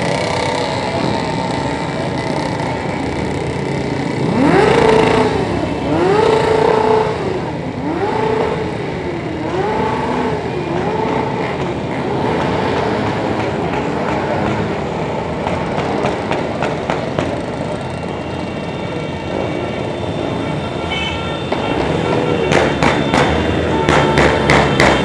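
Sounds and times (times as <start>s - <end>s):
motorcycles riding by: 0.0s - 25.0s.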